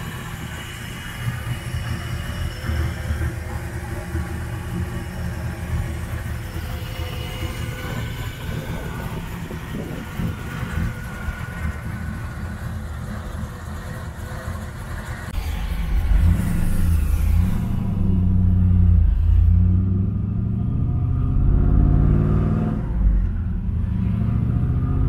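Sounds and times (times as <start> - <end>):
car engine idling: 0.0 - 21.6.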